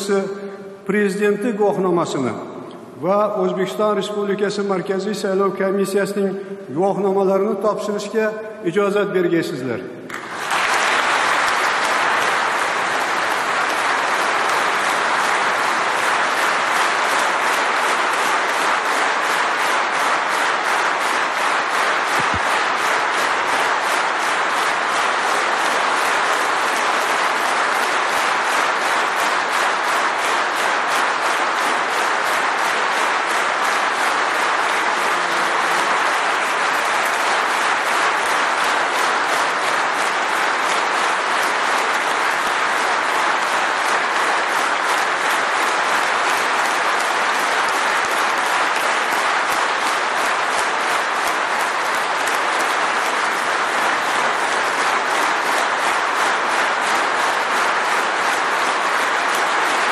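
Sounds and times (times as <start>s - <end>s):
large audience applauding: 9.2s - 59.9s.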